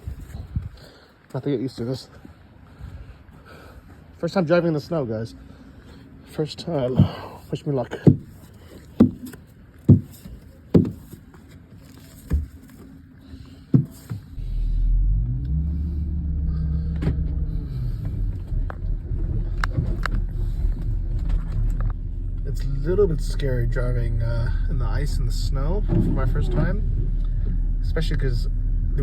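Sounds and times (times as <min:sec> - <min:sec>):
car engine rumbling: 0:04.1 - 0:29.0.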